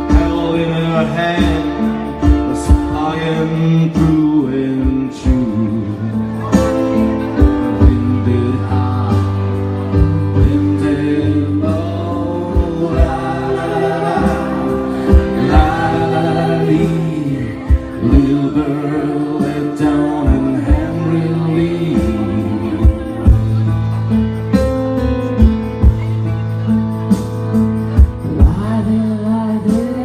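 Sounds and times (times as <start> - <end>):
person singing: 0.0 - 23.9, 28.0 - 30.0
acoustic instruments playing: 0.0 - 30.0.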